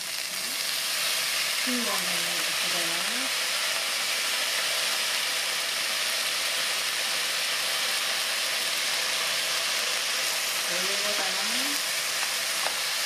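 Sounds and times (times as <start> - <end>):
sauce hissing on hot metal: 0.0 - 13.0
stir-fry sizzling in a pan: 0.0 - 13.0.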